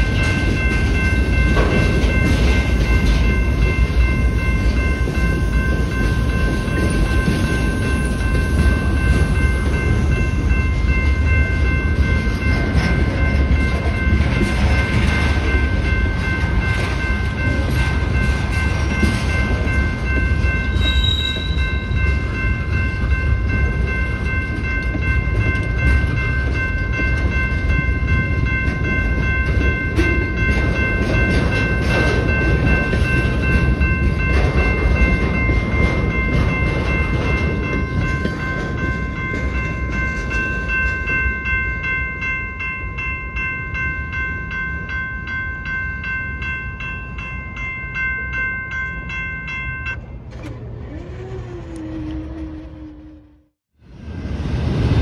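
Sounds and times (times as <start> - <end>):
railroad crossing bell ringing: 0.0 - 53.2
freight train rumbling and clattering: 0.0 - 55.0.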